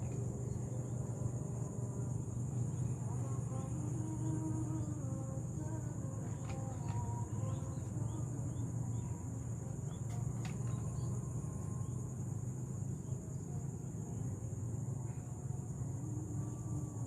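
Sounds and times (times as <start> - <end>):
faint chirps: 0.0 - 17.0
insects chirring: 0.0 - 17.0
low steady rumble: 0.0 - 17.0.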